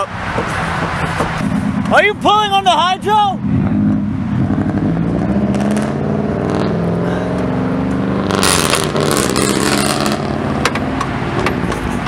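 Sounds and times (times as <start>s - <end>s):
car rolling on road: 0.0s - 12.0s.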